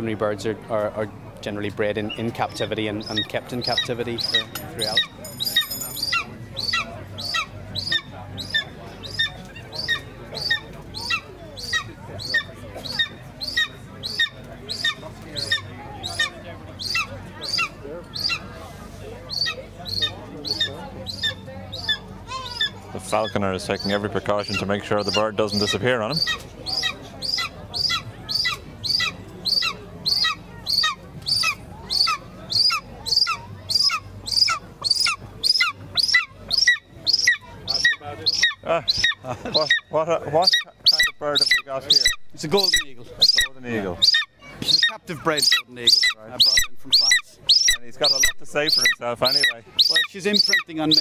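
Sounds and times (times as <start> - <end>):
eagle squealing calls: 3.0 - 18.5, 19.3 - 51.0.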